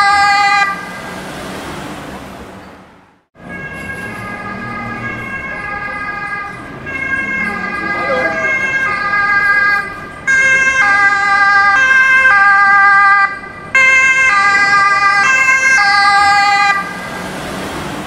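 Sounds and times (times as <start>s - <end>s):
two-tone ambulance siren: 0.0s - 1.3s, 3.4s - 18.0s
city street traffic hum: 0.0s - 18.0s.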